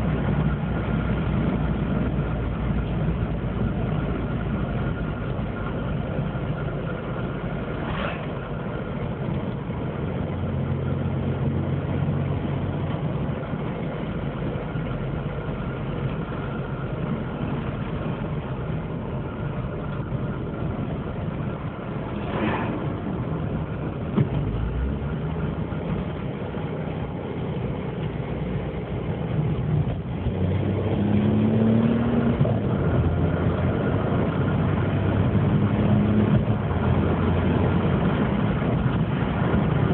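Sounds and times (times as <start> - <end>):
car engine with broken exhaust: 0.0 - 39.9.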